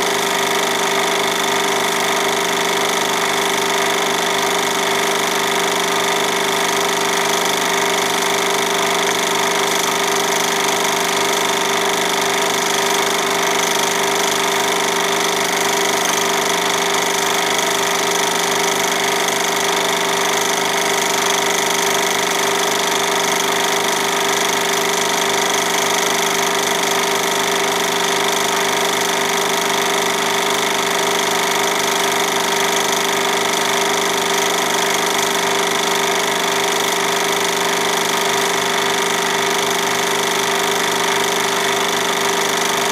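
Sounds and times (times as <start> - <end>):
film projector running: 0.0 - 42.9.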